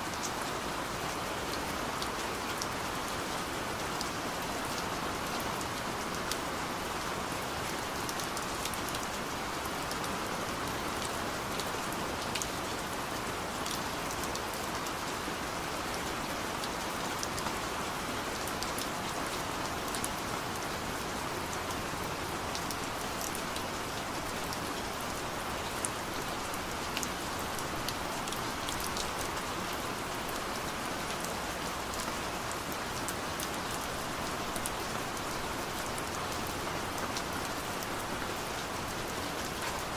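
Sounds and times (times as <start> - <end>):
rain on a car body and windows: 0.0 - 39.9.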